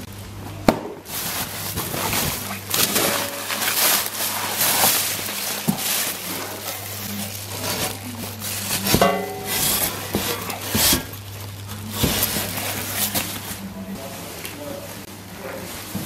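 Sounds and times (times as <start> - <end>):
steady low hum: 0.0 - 16.0
bubble wrap crinkling: 1.0 - 16.0.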